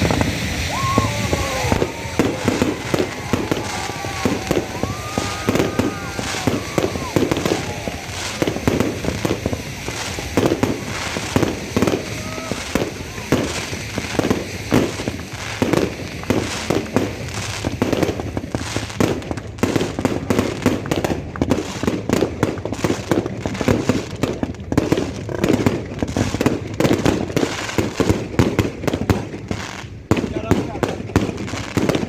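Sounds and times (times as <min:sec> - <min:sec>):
fireworks barrage of bangs: 0:00.0 - 0:32.0.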